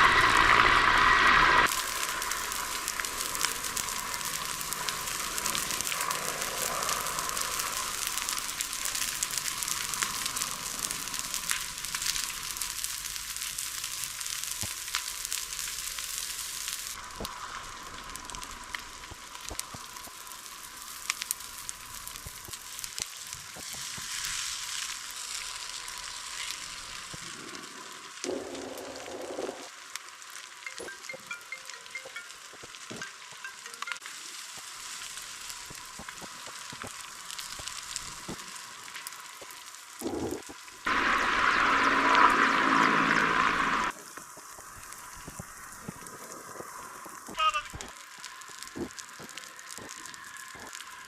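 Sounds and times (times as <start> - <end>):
fire crackling and popping: 0.0 - 51.0
steady fire hiss: 0.0 - 51.0.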